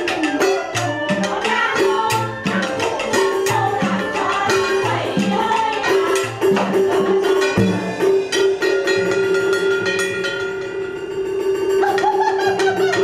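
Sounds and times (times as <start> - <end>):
drum strokes: 0.0 - 13.0
wood-block strokes: 0.0 - 13.0.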